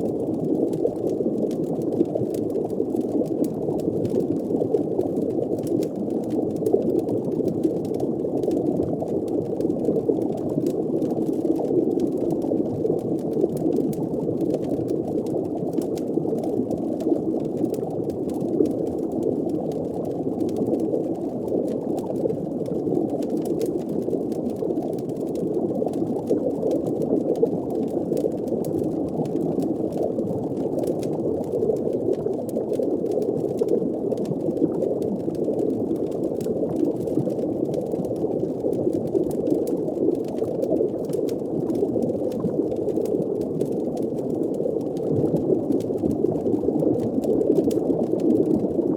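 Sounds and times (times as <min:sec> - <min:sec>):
underwater bubbling rumble: 0:00.0 - 0:48.9.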